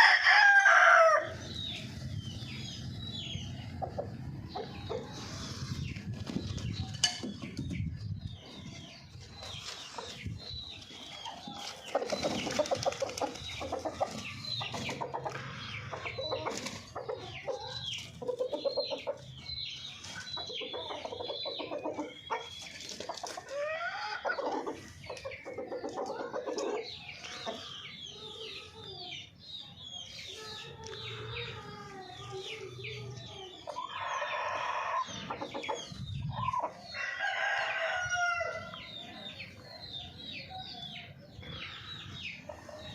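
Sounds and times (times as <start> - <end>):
chickens clucking and calling: 0.0 - 42.9.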